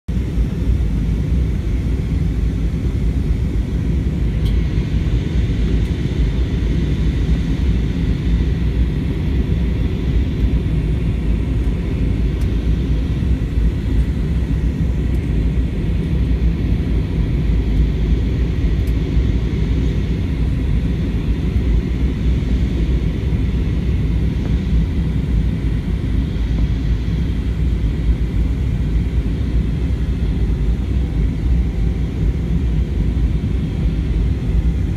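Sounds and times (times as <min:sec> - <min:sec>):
airliner cabin engine rumble: 0:00.1 - 0:34.9.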